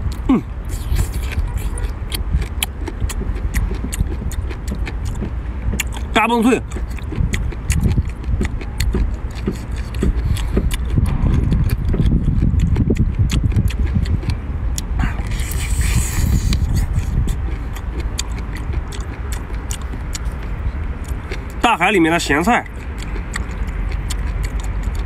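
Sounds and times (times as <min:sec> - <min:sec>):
low rumble: 0:00.0 - 0:21.6
chewing and mouth smacking: 0:00.1 - 0:25.0.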